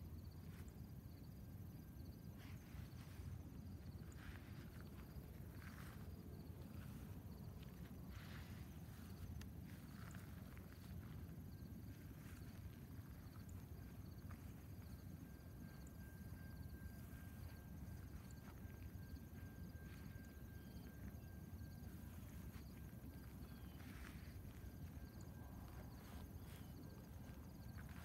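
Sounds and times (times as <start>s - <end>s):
faint thin steady tone: 0.0s - 28.0s
insects chirping: 0.0s - 28.0s.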